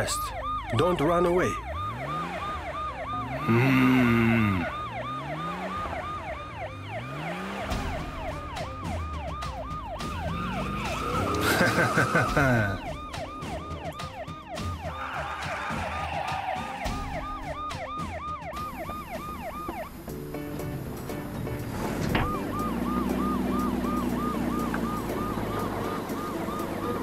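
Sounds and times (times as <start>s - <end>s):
police siren yelping: 0.0s - 20.8s, 22.0s - 27.0s
car engines revving: 0.0s - 27.0s.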